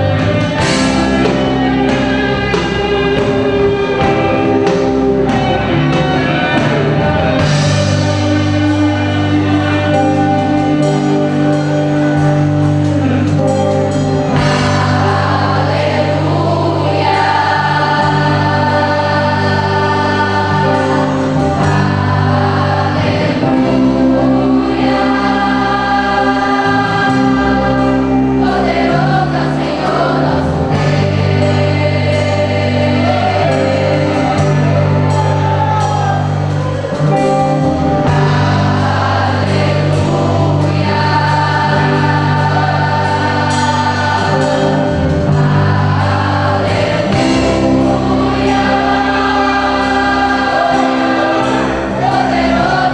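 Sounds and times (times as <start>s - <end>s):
choir singing gospel music: 0.0s - 52.9s
instrumental accompaniment with bass: 0.0s - 52.9s.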